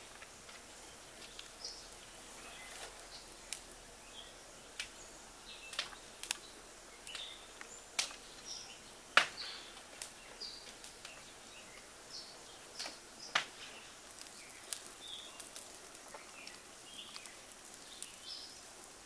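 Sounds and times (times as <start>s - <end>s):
birds chirping: 0.0s - 19.0s
soft outdoor hiss: 0.0s - 19.0s.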